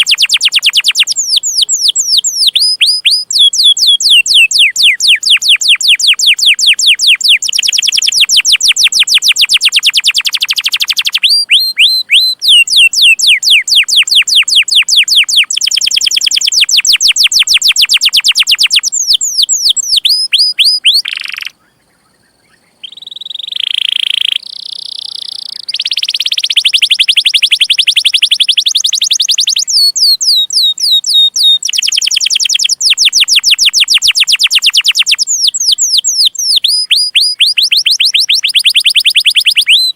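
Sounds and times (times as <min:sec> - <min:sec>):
canary trilling: 0:00.0 - 0:21.6, 0:22.8 - 0:39.9.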